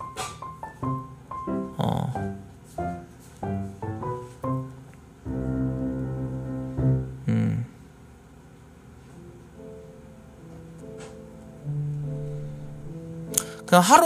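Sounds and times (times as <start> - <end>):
piano music: 0.0 - 7.6, 9.0 - 14.0.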